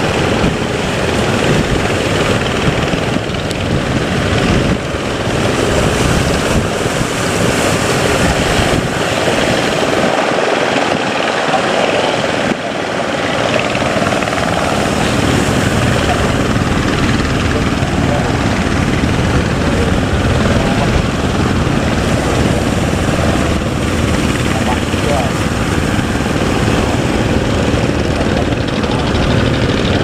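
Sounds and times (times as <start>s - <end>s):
boat engine running: 0.0s - 30.0s
rushing wind: 0.0s - 30.0s
water noise: 0.0s - 30.0s.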